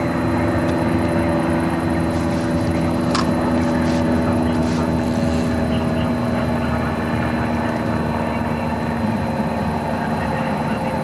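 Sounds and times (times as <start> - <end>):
mechanical drone: 0.0 - 11.0.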